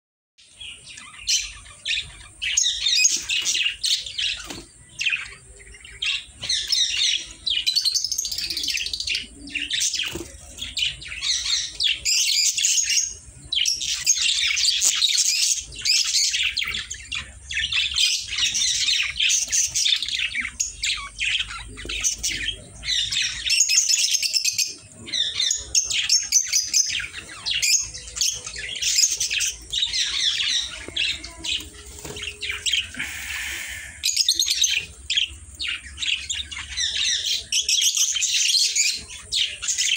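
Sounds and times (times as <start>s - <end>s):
budgerigars chattering and chirping: 0.4s - 39.9s.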